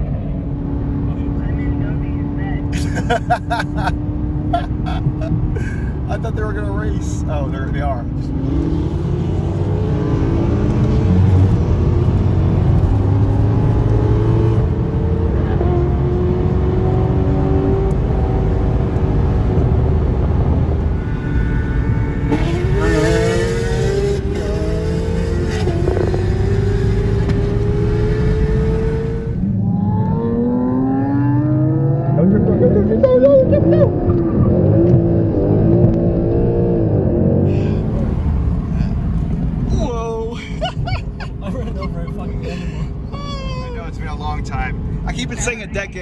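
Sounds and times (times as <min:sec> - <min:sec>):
car engine accelerating: 0:00.0 - 0:46.0
road rumble: 0:00.0 - 0:46.0.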